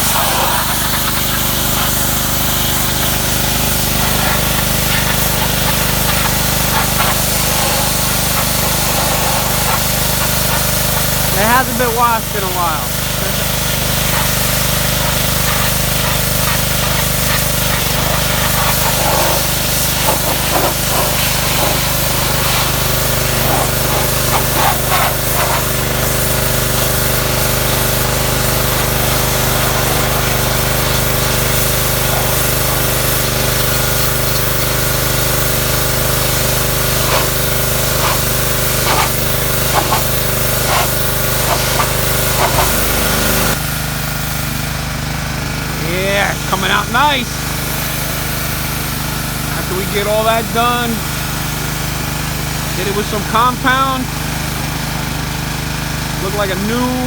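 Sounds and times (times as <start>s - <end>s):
water spraying hiss: 0.0s - 56.8s
pressure washer hum: 0.0s - 57.0s.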